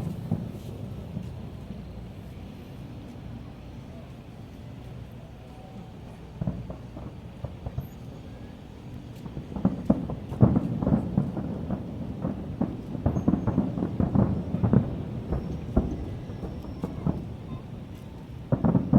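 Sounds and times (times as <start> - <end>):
fireworks bursting: 0.0 - 4.3, 6.4 - 18.9.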